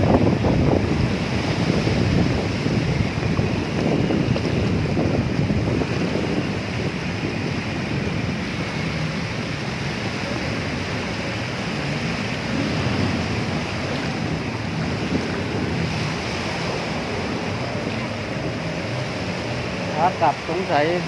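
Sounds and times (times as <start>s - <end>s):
sea waves: 0.0s - 21.0s
wind buffeting microphone: 0.0s - 21.0s.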